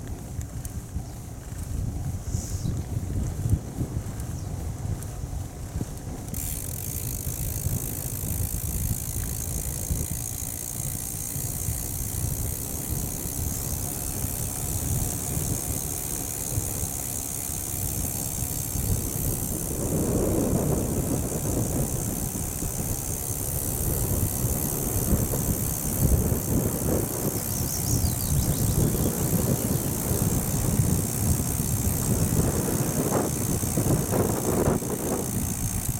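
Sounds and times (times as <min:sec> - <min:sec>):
bicycle tyres on tarmac: 0:00.0 - 0:35.9
wind buffeting microphone: 0:00.0 - 0:35.9.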